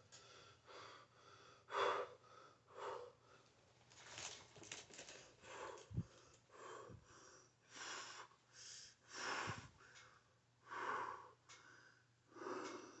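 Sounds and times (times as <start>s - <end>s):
person breathing heavily: 0.2s - 3.5s, 5.4s - 13.0s.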